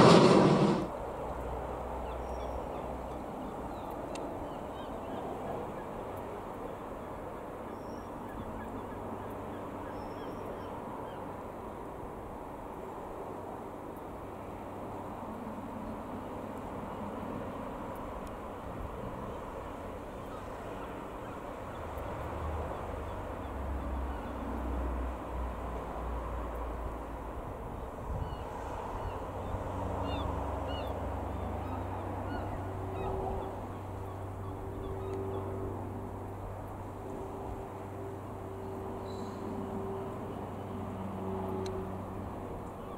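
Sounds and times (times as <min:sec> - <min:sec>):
light aircraft engine droning: 0:00.0 - 0:42.9.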